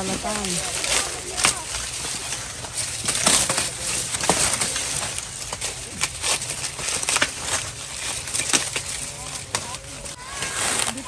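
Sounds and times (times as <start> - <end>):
corn husks rustling and tearing: 0.0 - 11.0.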